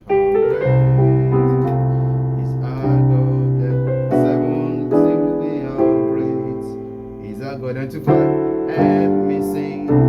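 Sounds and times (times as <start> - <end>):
piano keyboard chords: 0.0 - 10.0.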